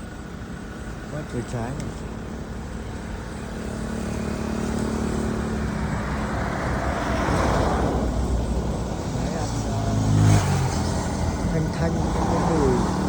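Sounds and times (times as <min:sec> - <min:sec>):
vehicle engine humming: 0:00.0 - 0:13.0
vehicle passing close by: 0:02.5 - 0:13.0.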